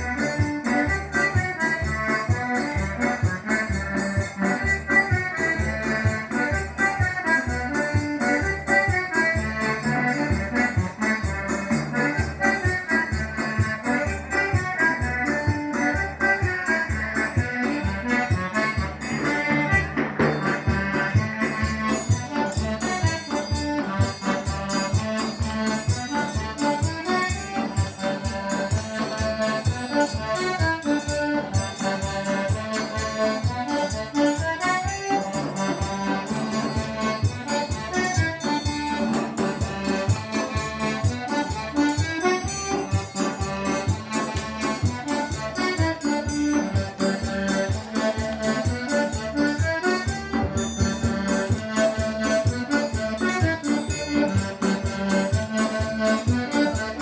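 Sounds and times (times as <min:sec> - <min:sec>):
accordion dance music: 0:00.0 - 0:57.0.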